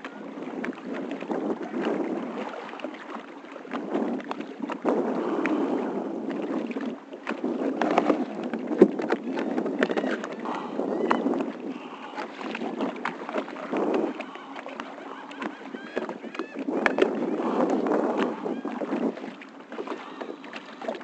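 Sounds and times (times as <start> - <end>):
water sloshing around a kayak: 0.0 - 21.0.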